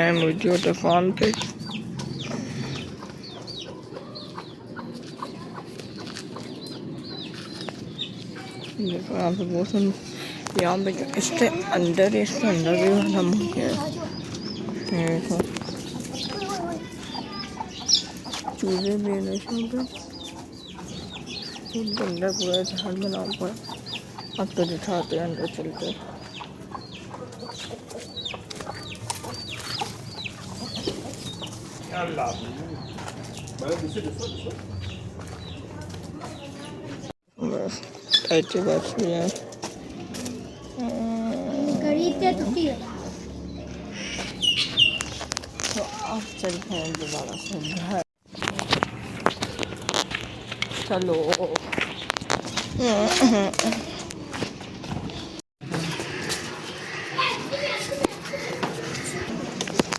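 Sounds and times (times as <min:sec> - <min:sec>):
chickens clucking: 0:00.0 - 0:59.9
din of other birds: 0:00.0 - 0:59.9.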